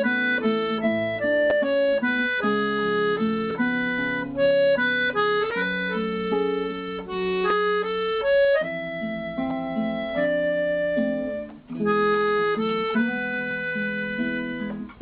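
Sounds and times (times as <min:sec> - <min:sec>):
reedy accordion-like music: 0:00.0 - 0:15.0.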